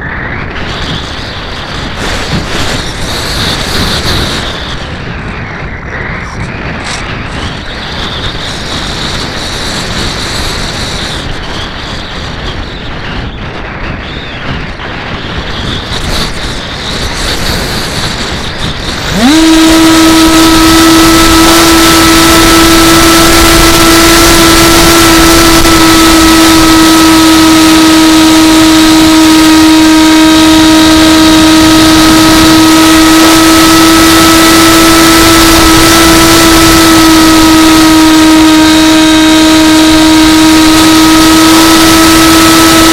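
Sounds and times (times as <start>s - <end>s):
electric motor whine: 0.0s - 42.9s
wind on microphone: 0.0s - 42.9s.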